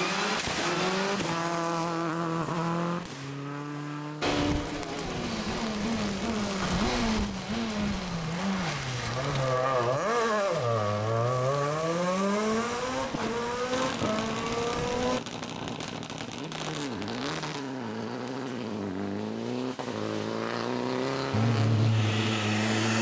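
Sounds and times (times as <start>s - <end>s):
rally car engine revving: 0.0s - 15.2s, 16.3s - 23.0s.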